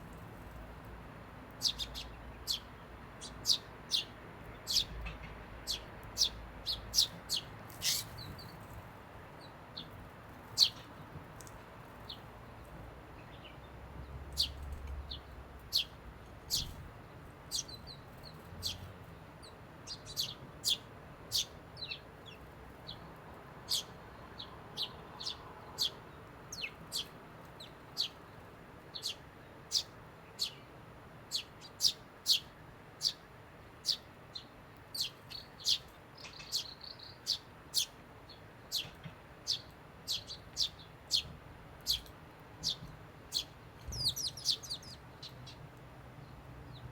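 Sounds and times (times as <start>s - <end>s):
sparrows chirping: 1.5s - 46.9s.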